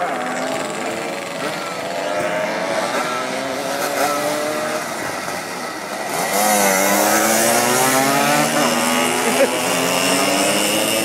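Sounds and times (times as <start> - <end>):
motorcycles riding past: 0.0 - 11.0.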